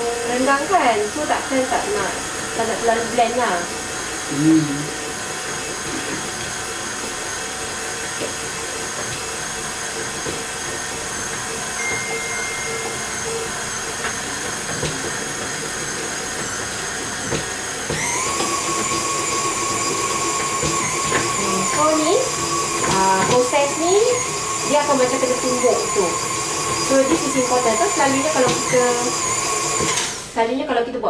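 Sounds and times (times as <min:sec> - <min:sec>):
stand mixer motor whining: 0:00.0 - 0:30.5.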